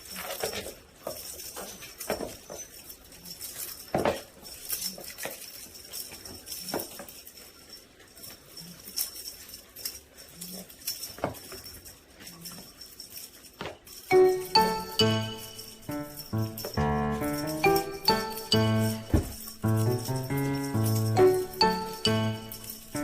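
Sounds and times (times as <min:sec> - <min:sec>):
cat playing with wand toy: 0:00.0 - 0:23.0.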